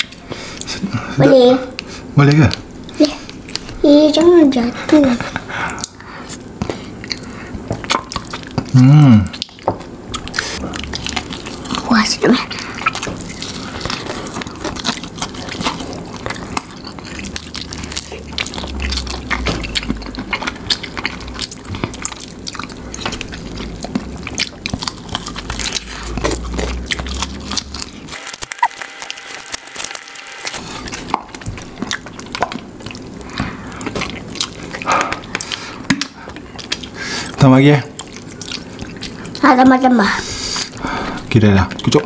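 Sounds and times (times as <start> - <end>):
people chewing with lip-smacking: 0.0 - 42.0.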